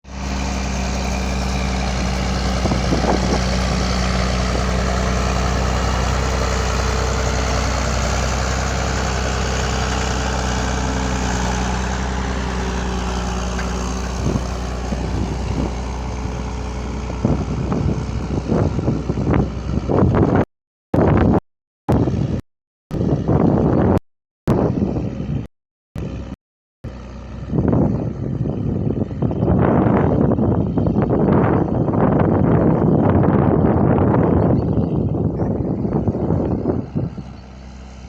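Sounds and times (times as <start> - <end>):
tractor diesel engine running: 0.0 - 20.4, 24.5 - 38.0
wind buffeting microphone: 0.1 - 20.4, 21.0 - 26.2, 27.0 - 38.0.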